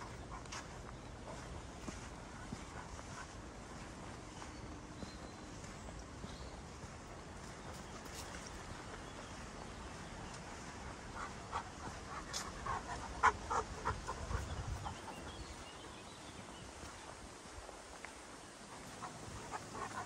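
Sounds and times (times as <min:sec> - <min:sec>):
footsteps on dirt path: 0:00.0 - 0:20.0.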